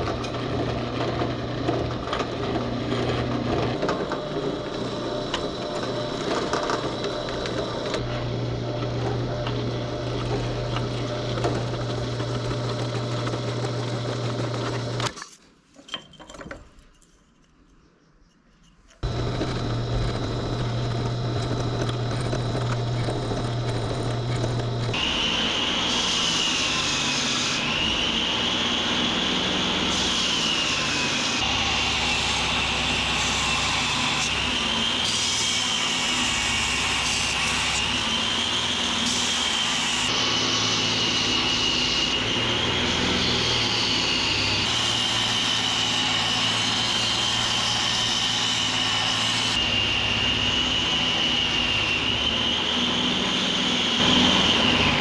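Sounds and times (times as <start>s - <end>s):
power tool whining: 0.0s - 15.2s, 19.0s - 55.0s.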